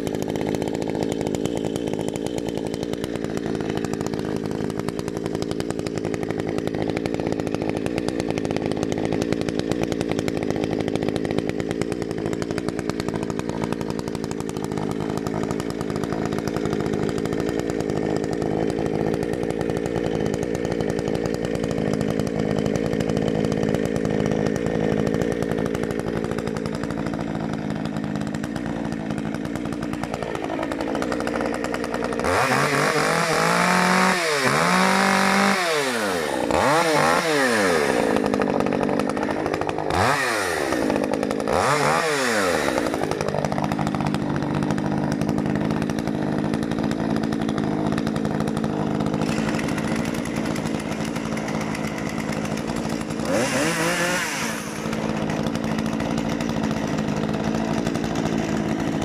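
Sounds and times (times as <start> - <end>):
chainsaw idling: 0.0 - 59.0
chainsaw throttle blips: 0.0 - 59.0.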